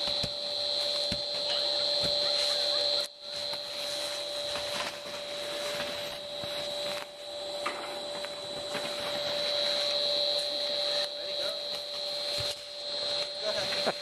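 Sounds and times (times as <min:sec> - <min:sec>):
tow machine hum with whine: 0:00.0 - 0:14.0.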